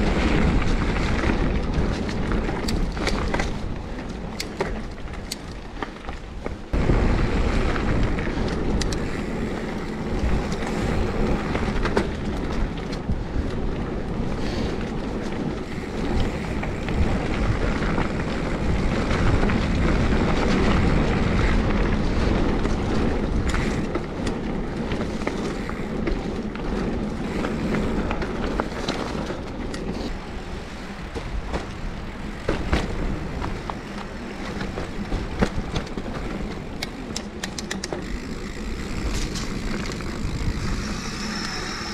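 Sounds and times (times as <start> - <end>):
bike clicks and rattles: 0.0 - 41.9
tyre and wind rush: 0.0 - 41.9.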